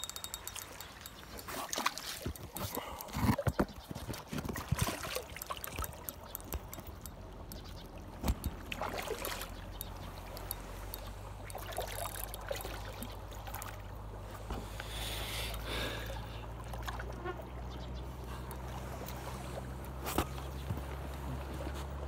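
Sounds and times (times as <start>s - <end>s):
water splashes: 0.0s - 22.0s
water lapping against rocks: 0.1s - 22.0s.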